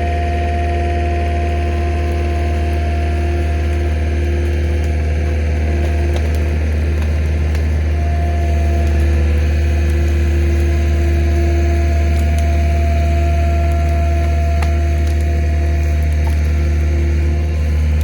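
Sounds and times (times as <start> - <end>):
engine running with low drone: 0.0 - 18.0.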